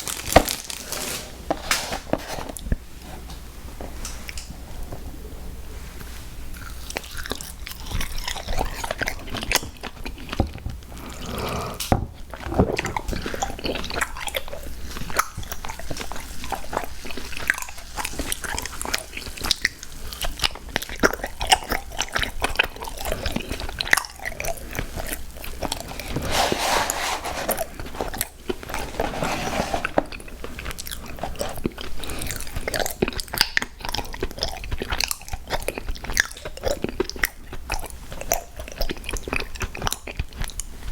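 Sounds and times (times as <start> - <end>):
person chewing sweets: 6.5 - 40.9.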